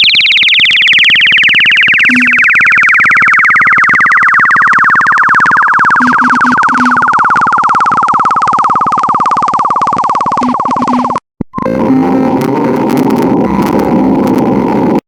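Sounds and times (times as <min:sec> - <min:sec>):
low beeps: 0:01.8 - 0:15.0.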